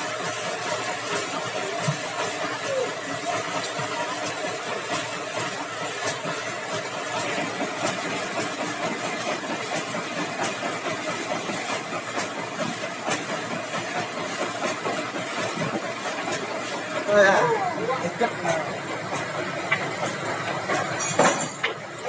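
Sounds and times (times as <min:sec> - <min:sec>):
sawmill machinery drone: 0:00.0 - 0:22.0.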